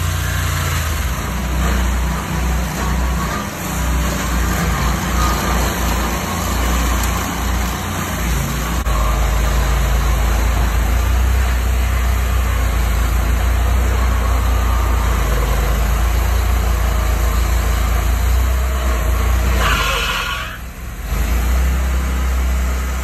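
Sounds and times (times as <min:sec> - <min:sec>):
gasoline engine running: 0:00.0 - 0:23.0.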